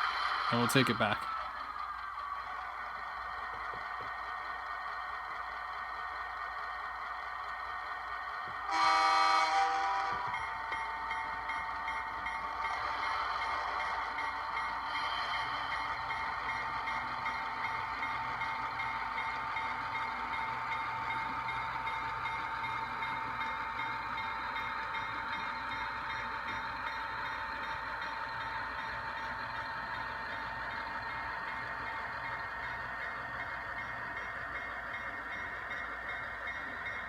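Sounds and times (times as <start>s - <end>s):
model locomotive engine from small speaker: 0.0s - 37.0s.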